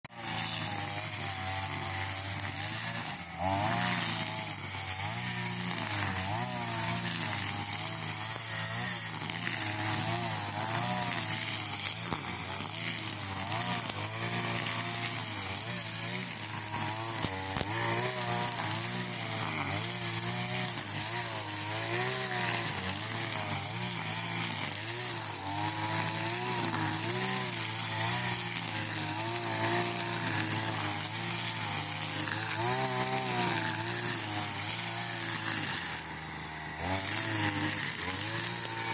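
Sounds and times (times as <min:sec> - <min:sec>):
string trimmer engine revving: 0:00.0 - 0:38.9.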